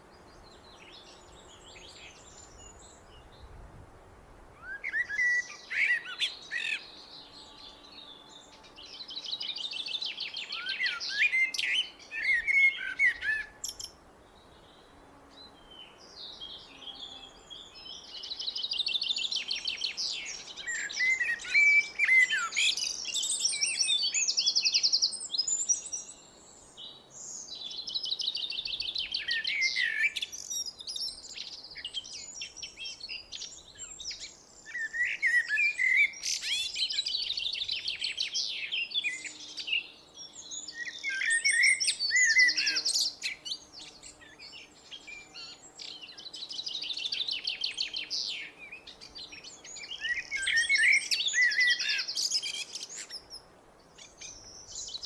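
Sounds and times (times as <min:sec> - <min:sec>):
blackbird singing: 0:04.6 - 0:14.8, 0:15.4 - 0:55.0.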